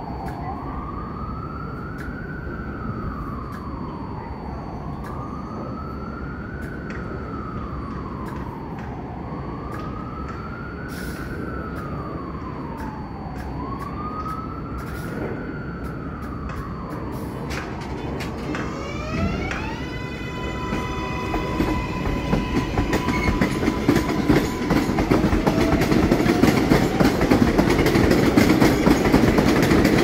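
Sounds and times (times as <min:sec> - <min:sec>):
emergency vehicle siren wailing: 0:00.0 - 0:30.0.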